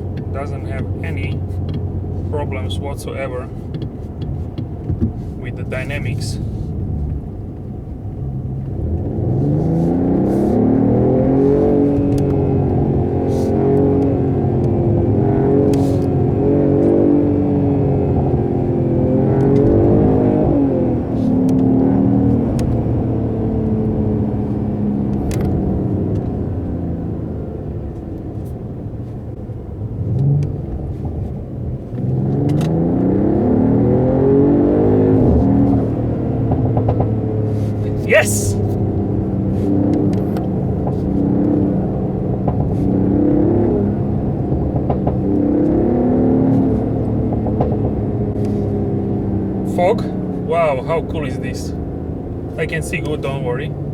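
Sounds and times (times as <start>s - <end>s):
car engine accelerating: 0.0s - 53.9s.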